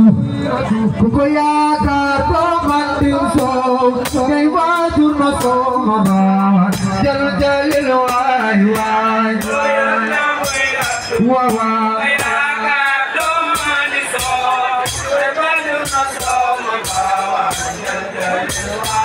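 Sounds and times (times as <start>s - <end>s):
percussion with sharp strikes: 0.0s - 19.0s.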